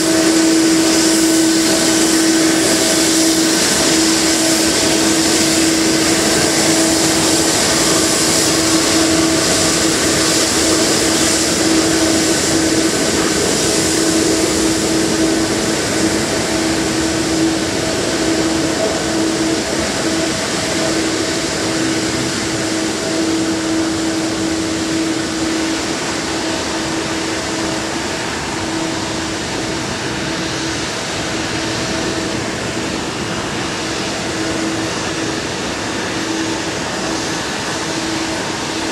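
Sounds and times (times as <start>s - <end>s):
airliner cabin engine rush: 0.0s - 38.9s
constant hum: 0.0s - 38.9s.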